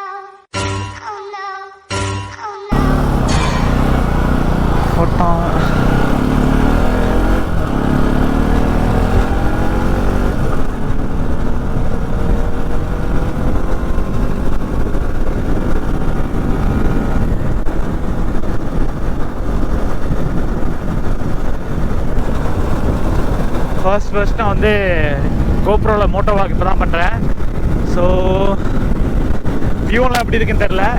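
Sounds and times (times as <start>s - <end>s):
motorcycle engine accelerating: 2.7s - 30.9s.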